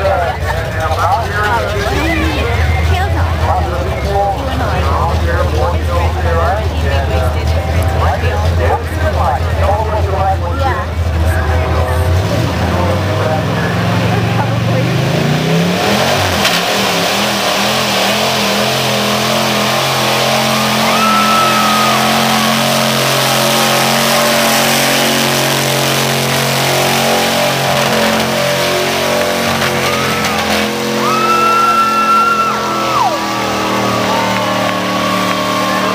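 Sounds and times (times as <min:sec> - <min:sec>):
truck engine running loud: 0:00.0 - 0:35.9.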